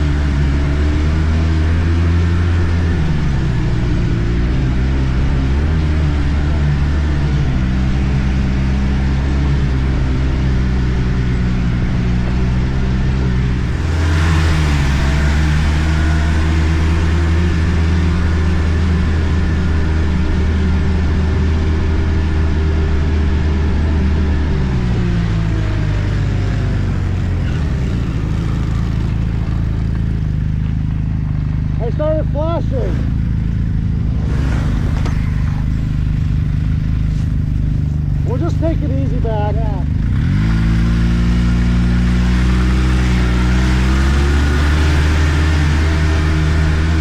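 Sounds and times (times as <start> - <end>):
snowmobile engine running: 0.0 - 47.0.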